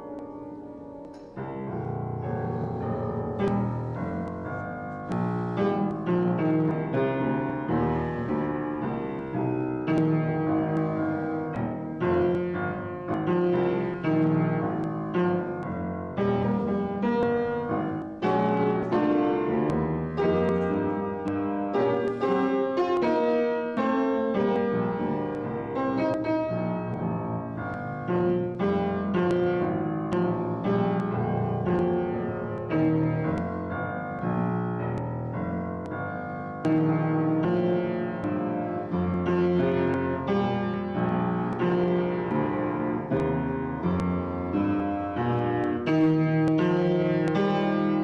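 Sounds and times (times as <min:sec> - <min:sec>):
slow piano piece: 0:00.0 - 0:48.0.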